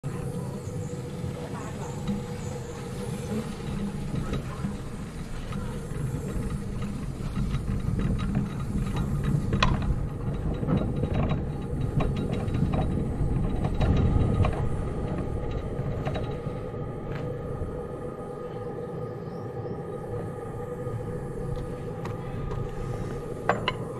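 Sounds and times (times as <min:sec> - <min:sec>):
low rumble: 0:00.0 - 0:23.9.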